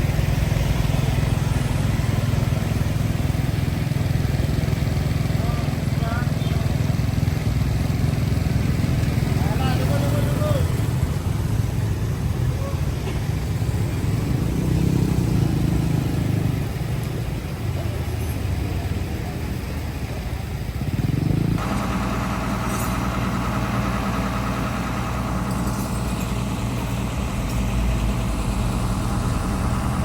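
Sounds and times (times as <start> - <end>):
engine idling: 0.0 - 30.0
vehicle engines in traffic: 0.0 - 30.0.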